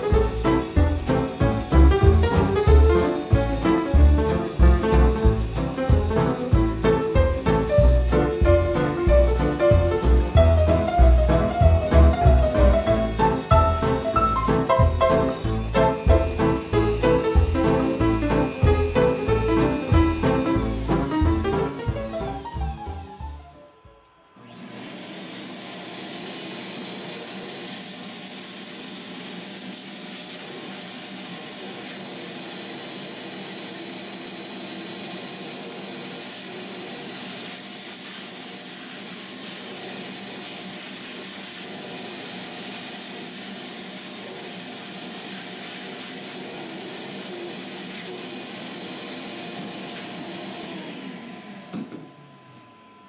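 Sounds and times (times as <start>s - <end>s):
vacuum cleaner sucking sawdust: 0.0s - 23.7s, 24.4s - 52.9s
vacuum motor winding down: 0.0s - 53.0s.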